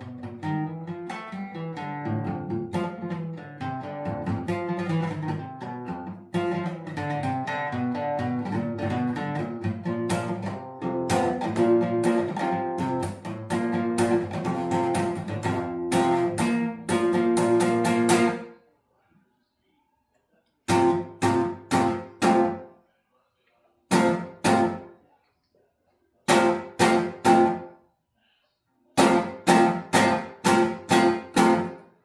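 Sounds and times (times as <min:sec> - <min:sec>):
acoustic guitar strumming chords: 0:00.0 - 0:18.6, 0:20.7 - 0:22.7, 0:23.9 - 0:25.0, 0:26.3 - 0:27.7, 0:29.0 - 0:31.9.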